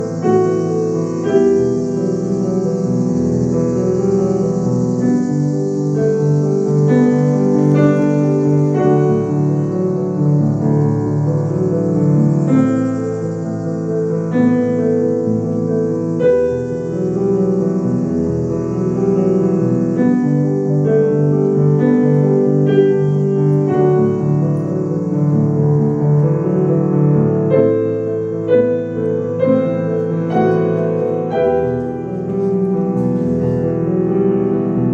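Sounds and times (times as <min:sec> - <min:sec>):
background piano music: 0:00.0 - 0:34.9.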